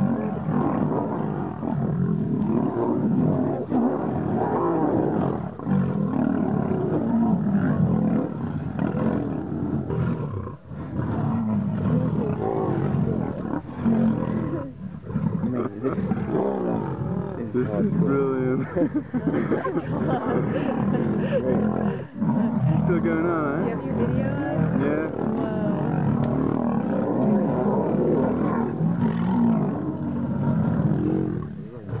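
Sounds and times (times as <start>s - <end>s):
lions snarling and growling: 0.0s - 32.0s.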